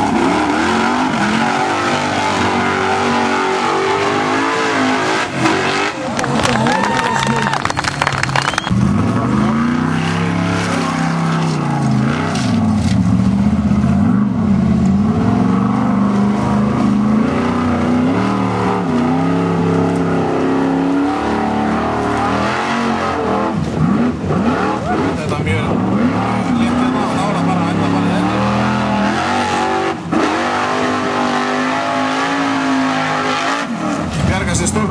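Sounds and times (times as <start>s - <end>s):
buggy engine revving: 0.0s - 34.9s.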